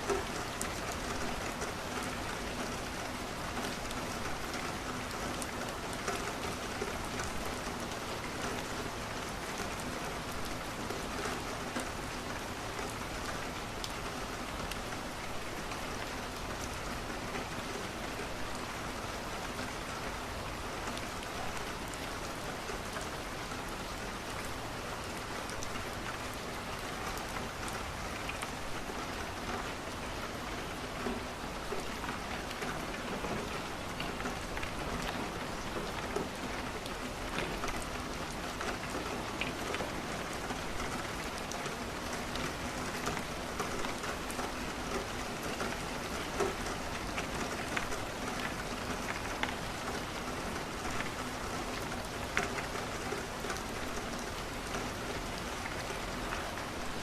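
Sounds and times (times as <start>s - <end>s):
rain against a window: 0.0s - 57.0s.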